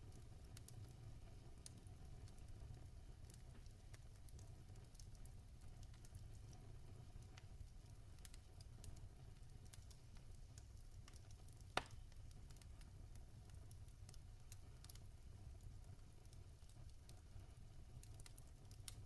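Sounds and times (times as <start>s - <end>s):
fire popping: 0.0s - 19.0s
logs crackling in fireplace: 0.0s - 19.0s.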